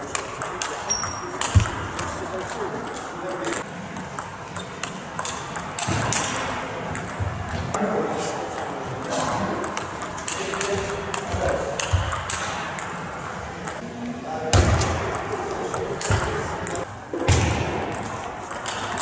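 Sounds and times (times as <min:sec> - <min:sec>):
table tennis ball clicking: 0:00.0 - 0:07.7, 0:08.5 - 0:13.8, 0:15.1 - 0:16.9, 0:17.8 - 0:19.0
murmur of voices: 0:00.0 - 0:19.0.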